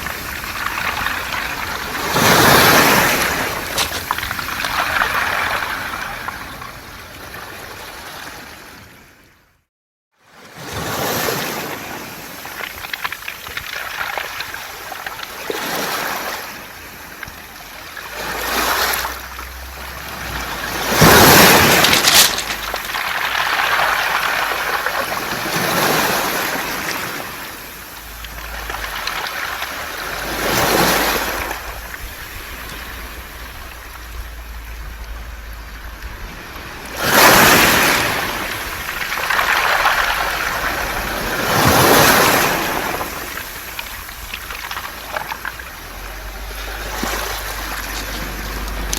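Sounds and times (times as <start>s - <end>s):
waves washing on pebbles: 0.0s - 8.8s, 10.5s - 48.9s.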